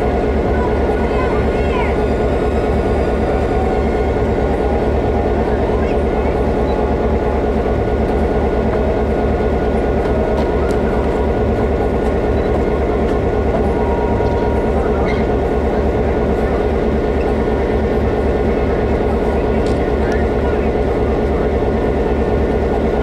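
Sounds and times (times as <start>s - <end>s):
low engine drone: 0.0s - 23.0s.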